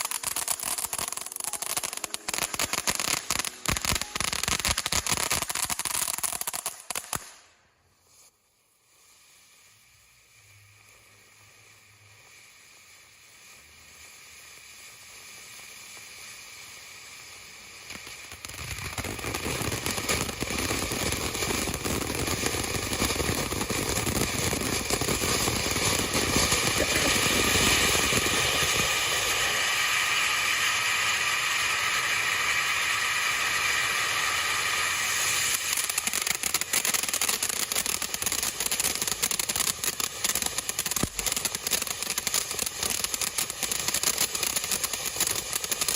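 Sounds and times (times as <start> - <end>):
firework crackling: 0.0 - 45.9
firework fountain spraying: 0.0 - 45.9.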